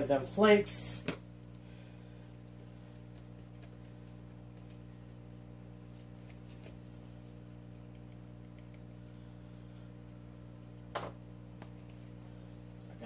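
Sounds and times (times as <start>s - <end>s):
aquarium air pump hum: 0.0s - 13.0s.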